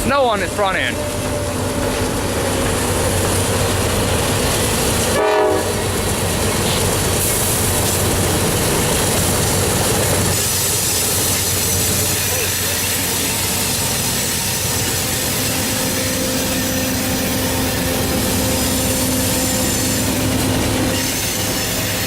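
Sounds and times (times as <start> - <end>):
diesel locomotive engines rumbling: 0.0 - 22.0
train wheels on rails: 0.0 - 22.0.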